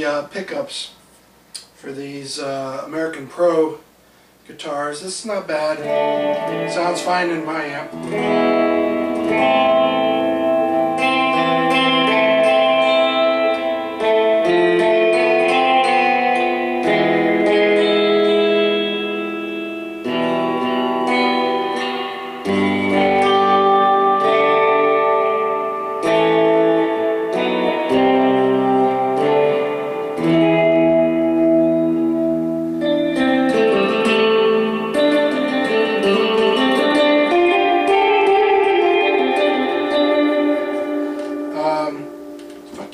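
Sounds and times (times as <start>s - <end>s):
clean electric guitar: 5.4s - 42.9s.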